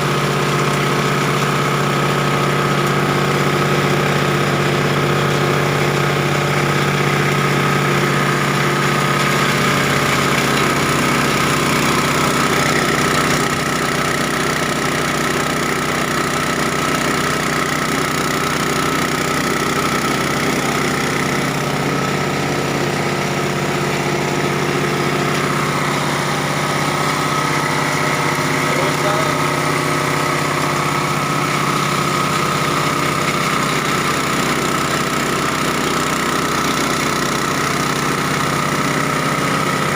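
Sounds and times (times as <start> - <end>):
chopping machine droning: 0.0 - 39.9.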